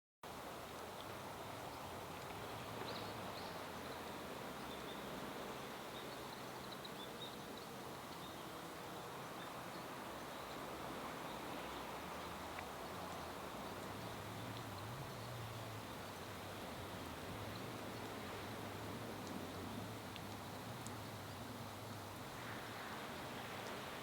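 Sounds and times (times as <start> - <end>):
outdoor background hiss: 0.2 - 24.0.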